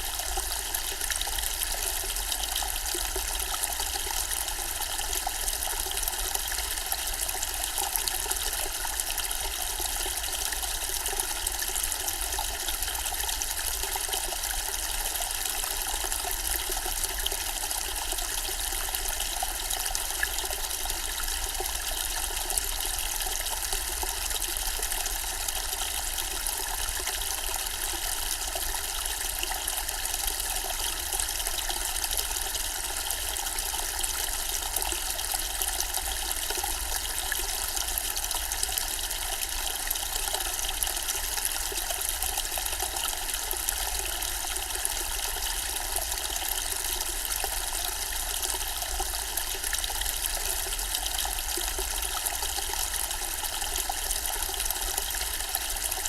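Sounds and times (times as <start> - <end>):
fountain water trickling and splashing: 0.0 - 56.0.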